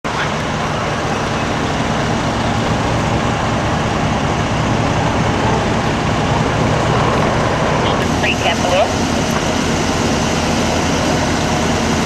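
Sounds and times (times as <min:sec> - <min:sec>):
fire truck engine rumbling: 0:00.0 - 0:12.0.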